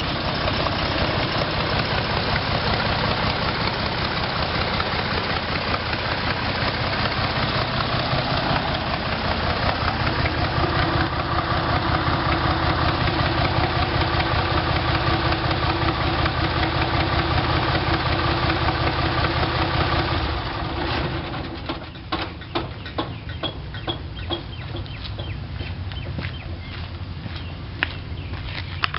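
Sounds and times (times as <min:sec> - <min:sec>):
diesel engine idling clatter: 0:00.0 - 0:28.9.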